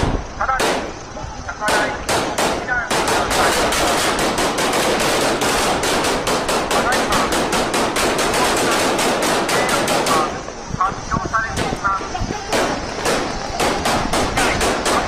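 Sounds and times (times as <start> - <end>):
automatic gunfire: 0.0 - 1.0, 1.6 - 10.4, 12.5 - 15.0.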